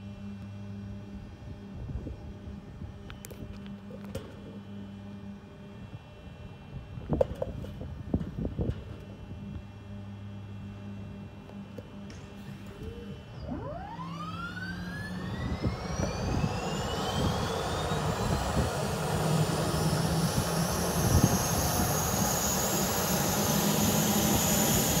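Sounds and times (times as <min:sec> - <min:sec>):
gas turbine whine spooling up: 0:00.0 - 0:25.0.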